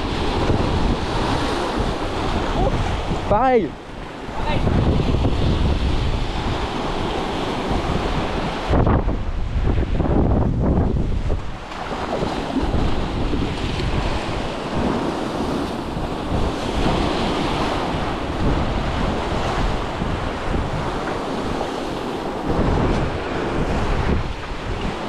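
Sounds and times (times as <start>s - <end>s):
sea waves breaking on shore: 0.0s - 25.0s
wind gusting on microphone: 0.0s - 25.0s.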